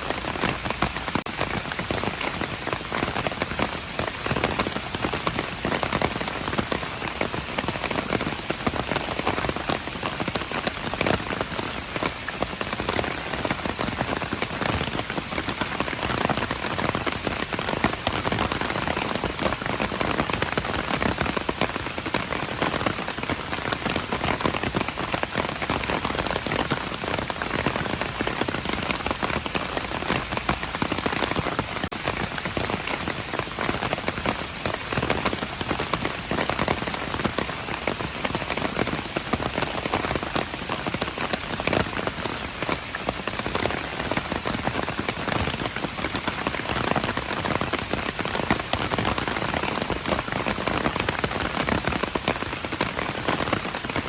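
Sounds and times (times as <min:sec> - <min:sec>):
heavy rain patter: 0:00.0 - 0:54.0.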